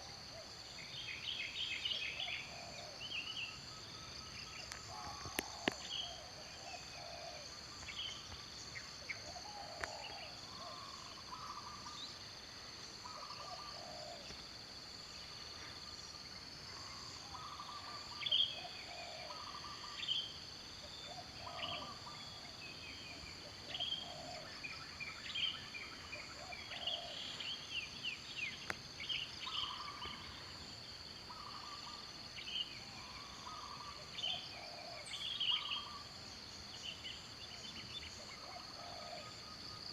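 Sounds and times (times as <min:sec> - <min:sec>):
bird calls: 0:00.0 - 0:12.2, 0:13.0 - 0:14.4, 0:16.8 - 0:36.1, 0:36.8 - 0:39.9.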